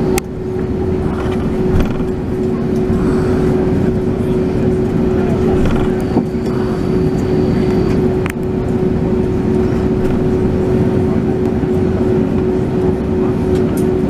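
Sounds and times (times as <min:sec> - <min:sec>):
aircraft engines humming: 0:00.0 - 0:14.0.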